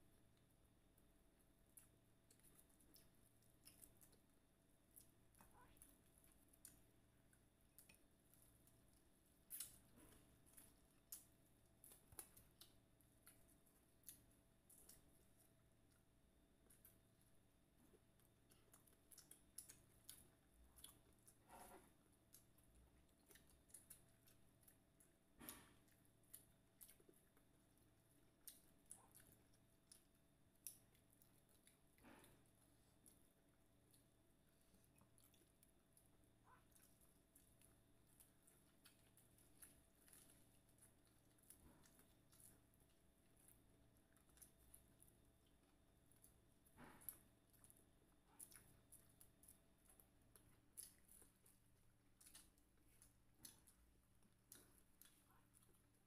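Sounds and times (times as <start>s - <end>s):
chewing mouth smacks: 1.6s - 56.0s.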